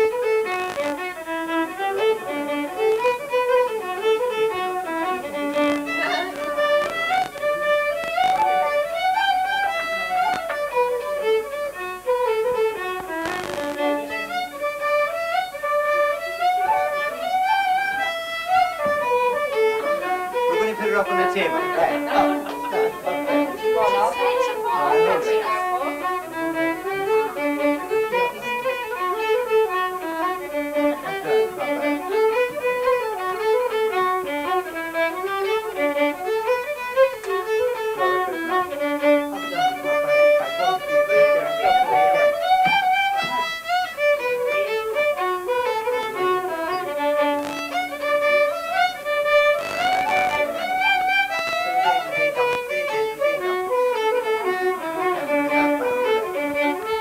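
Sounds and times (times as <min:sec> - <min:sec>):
fiddle playing a dance tune: 0:00.0 - 0:57.0.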